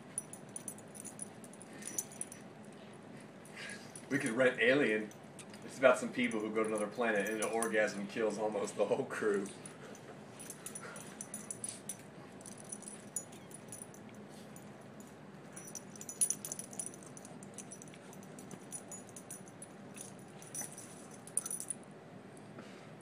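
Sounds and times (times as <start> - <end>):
collar jingling: 0.0 - 2.5, 3.8 - 8.0, 9.3 - 21.8.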